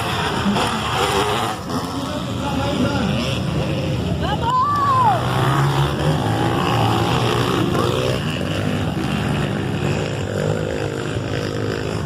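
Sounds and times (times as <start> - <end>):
motocross motorcycle engines: 0.0 - 12.0.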